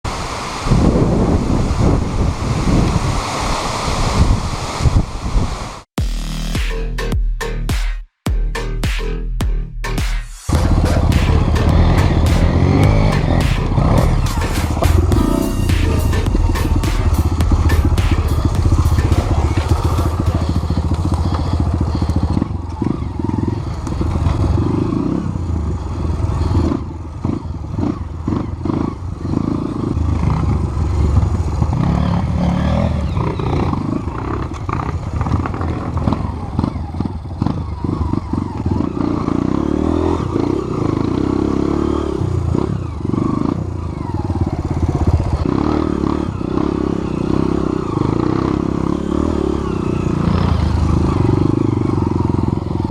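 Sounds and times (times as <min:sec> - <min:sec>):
motorcycle engine running: 0:10.5 - 0:52.9.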